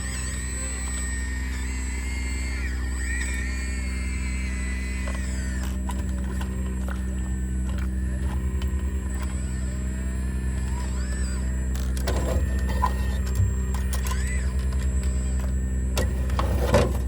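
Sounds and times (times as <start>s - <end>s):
high squeals from machine: 0.0s - 16.7s
excavator diesel engine running: 0.0s - 17.0s.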